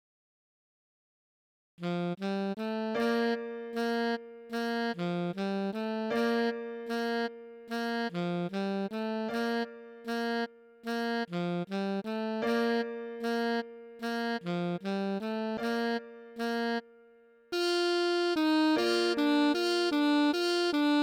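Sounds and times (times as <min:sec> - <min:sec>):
slow saxophone melody: 0:01.8 - 0:21.0.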